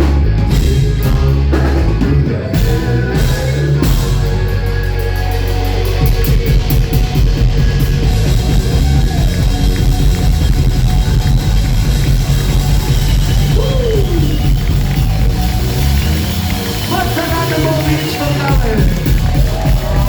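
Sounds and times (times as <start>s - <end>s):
bass guitar: 0.0s - 20.0s
drum kit: 0.0s - 20.0s
electric guitars: 0.0s - 20.0s.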